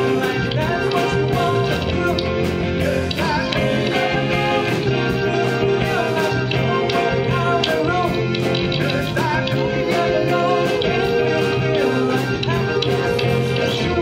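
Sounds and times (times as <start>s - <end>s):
live band playing pop song: 0.0s - 14.0s
voices singing: 0.0s - 14.0s.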